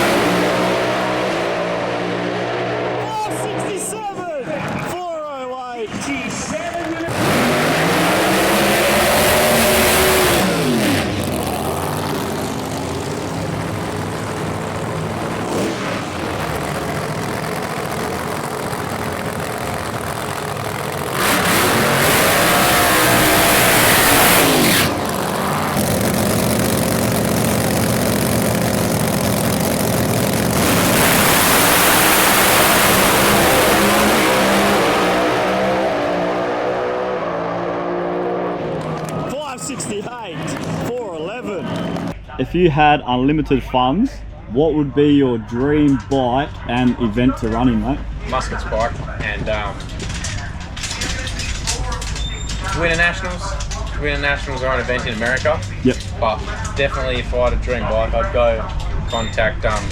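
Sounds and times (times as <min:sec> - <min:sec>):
drag racing engines revving: 0:00.0 - 0:05.0, 0:05.8 - 0:42.3, 0:44.7 - 0:59.9.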